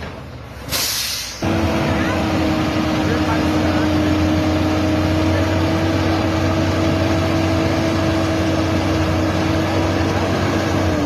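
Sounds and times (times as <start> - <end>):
truck diesel engine running hard: 0.0 - 11.0.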